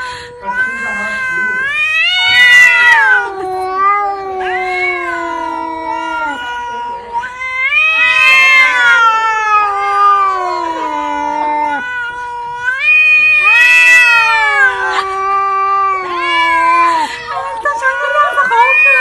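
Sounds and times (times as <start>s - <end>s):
cat yowling: 0.0s - 19.0s.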